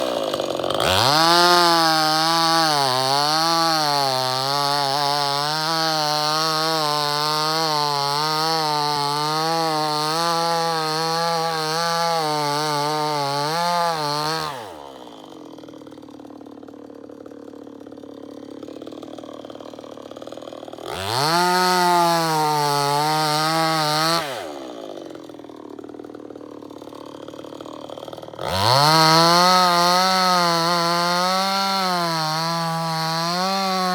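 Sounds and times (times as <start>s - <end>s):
chainsaw idling: 0.0s - 33.9s
chainsaw revving: 0.0s - 33.9s.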